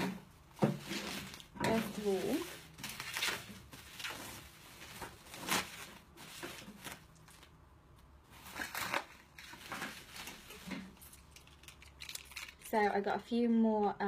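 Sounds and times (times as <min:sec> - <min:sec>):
packaging crinkling and rustling: 0:00.0 - 0:07.6, 0:08.3 - 0:12.8.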